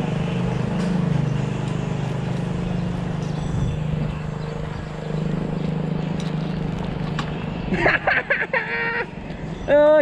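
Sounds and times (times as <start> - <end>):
small motorcycle engine idling: 0.0 - 10.0.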